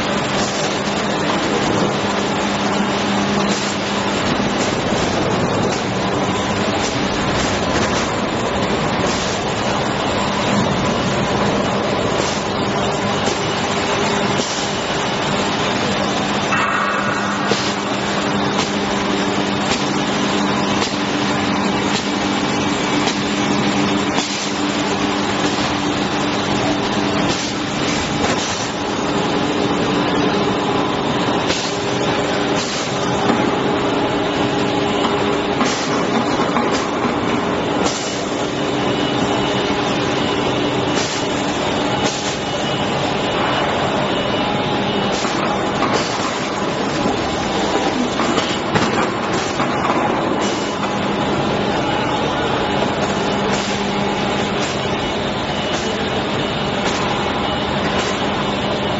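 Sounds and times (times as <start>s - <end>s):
extrusion machine mechanical noise: 0.0s - 58.9s.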